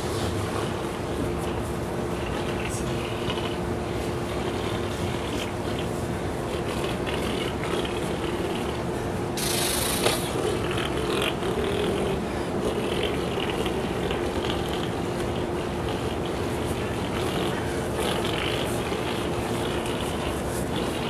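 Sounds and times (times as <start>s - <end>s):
man imitating engine drone: 0.0s - 21.0s.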